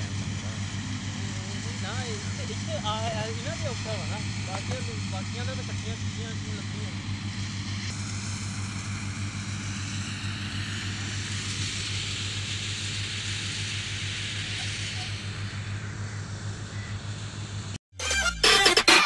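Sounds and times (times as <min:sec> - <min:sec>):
threshing machine hissing rush: 0:00.0 - 0:17.8
tractor engine drone: 0:00.0 - 0:19.0.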